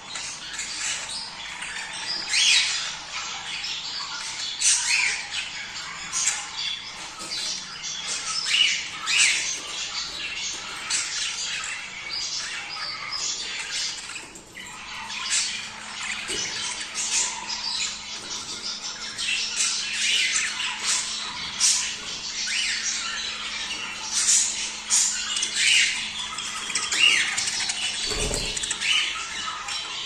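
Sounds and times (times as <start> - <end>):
budgerigars chattering: 0.2 - 30.0.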